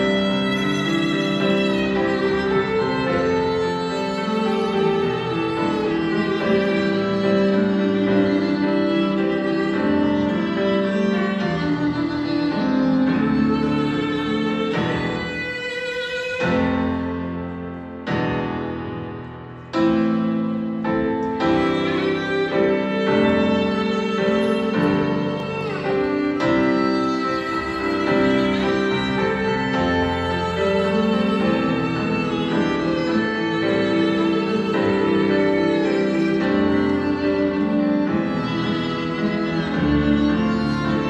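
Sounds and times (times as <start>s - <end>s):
bowed string melody: 0.0s - 41.0s
piano: 0.0s - 41.0s.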